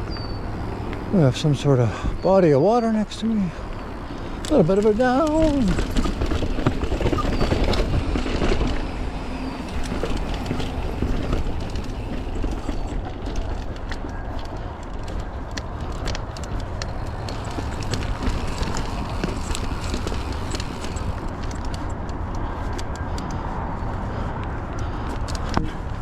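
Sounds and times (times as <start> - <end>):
bike clicks and rattles: 0.0 - 26.0
bike tyres on dirt: 0.0 - 26.0
wind rumble on microphone: 0.0 - 26.0.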